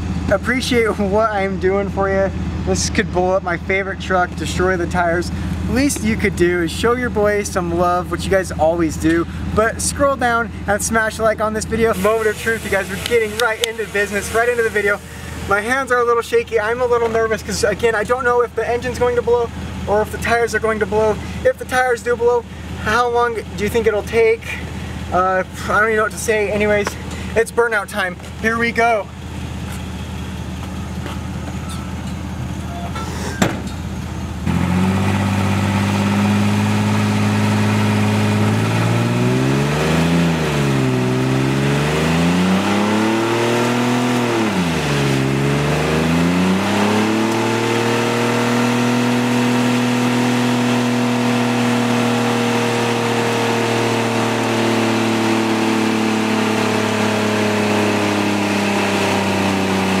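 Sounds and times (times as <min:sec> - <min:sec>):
tires spinning on steel: 0:00.0 - 1:00.0
truck engine revving: 0:00.0 - 1:00.0.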